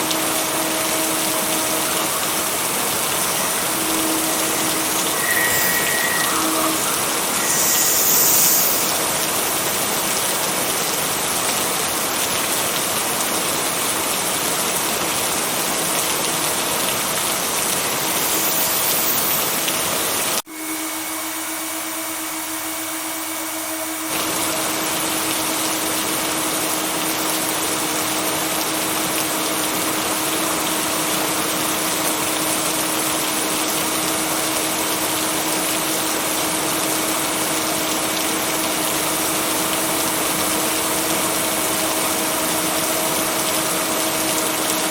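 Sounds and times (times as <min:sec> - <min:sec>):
heavy rain: 0:00.0 - 0:20.4, 0:24.1 - 0:44.9.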